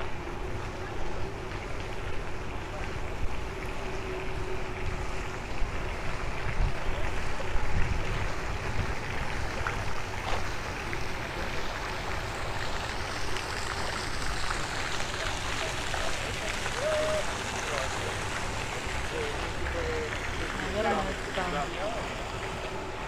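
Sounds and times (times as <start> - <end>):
rushing outdoor background noise: 0.0 - 23.0.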